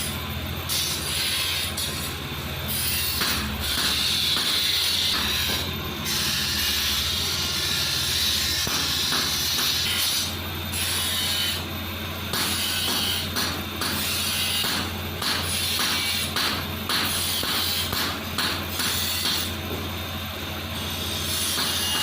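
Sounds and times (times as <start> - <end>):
metal grinding machine: 0.0 - 19.9, 20.5 - 22.0.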